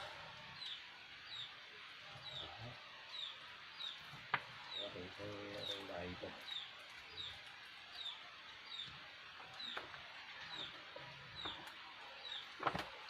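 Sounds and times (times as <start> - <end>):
bird chirping: 0.4 - 12.8.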